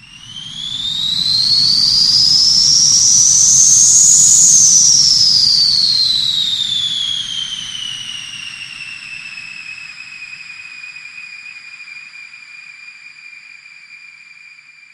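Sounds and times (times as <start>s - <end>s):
jet turbine whine: 0.0s - 14.9s.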